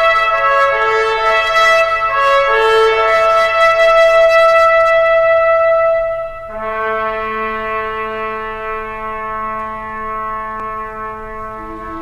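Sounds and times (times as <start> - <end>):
brass music: 0.0 - 12.0.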